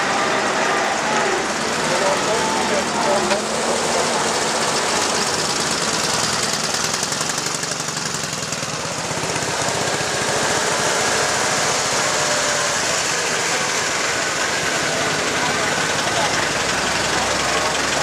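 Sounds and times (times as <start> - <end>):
jeep engine passing: 0.0 - 18.0
motorcycle engine passing: 0.0 - 18.0
truck engine passing: 0.0 - 18.0.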